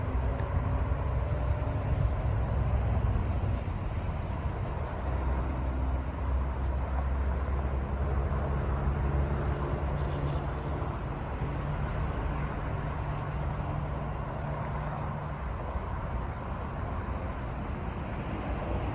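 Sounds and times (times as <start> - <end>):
diesel locomotive engine rumble: 0.0 - 18.9.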